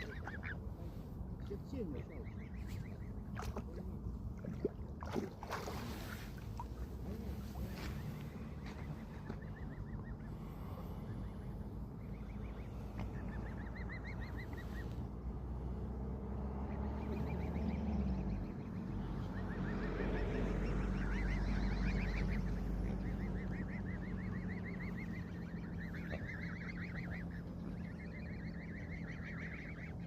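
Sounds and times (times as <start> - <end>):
cygnets peeping: 0.0 - 0.7, 1.4 - 4.6, 6.8 - 15.1, 16.6 - 30.0
low rumble: 0.0 - 30.0.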